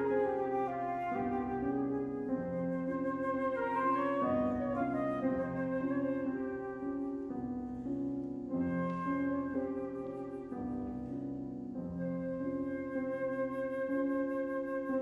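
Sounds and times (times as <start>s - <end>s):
flute playing: 0.0s - 7.4s, 8.6s - 11.4s, 12.0s - 15.0s
piano chords: 0.0s - 15.0s.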